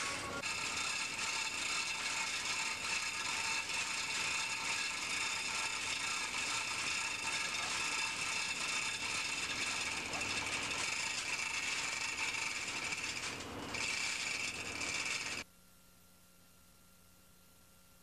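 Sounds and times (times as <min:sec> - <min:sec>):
high whine: 0:00.0 - 0:15.4.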